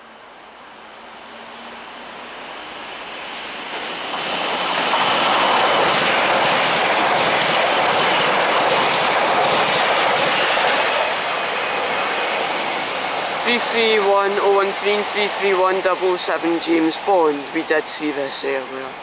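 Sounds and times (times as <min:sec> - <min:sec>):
train passing with wheel noise: 0:00.0 - 0:19.0.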